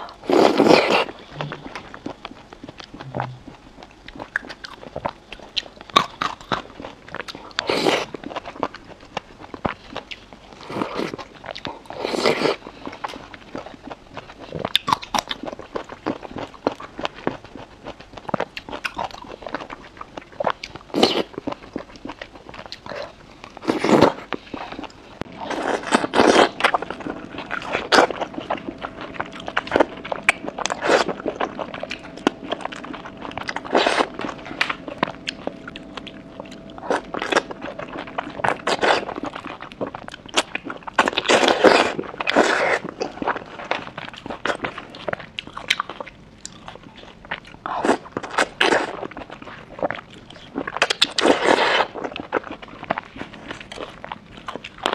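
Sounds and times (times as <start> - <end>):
wet chewing and biting: 0.1 - 54.9.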